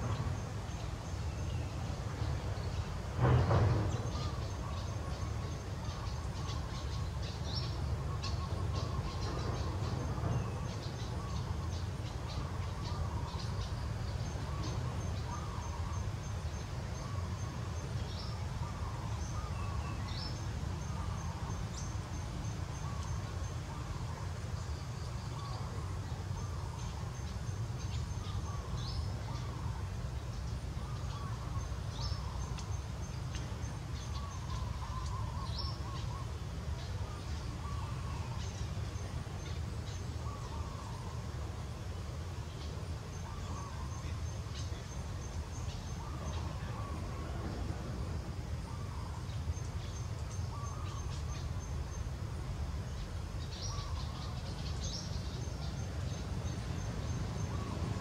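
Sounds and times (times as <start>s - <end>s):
birds calling: 0.0s - 52.2s, 52.8s - 58.0s.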